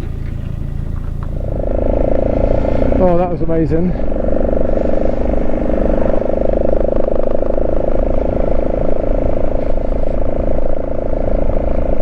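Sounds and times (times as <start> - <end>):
motorcycle engine cruising: 0.0 - 12.0
wind noise rumbling: 0.0 - 12.0.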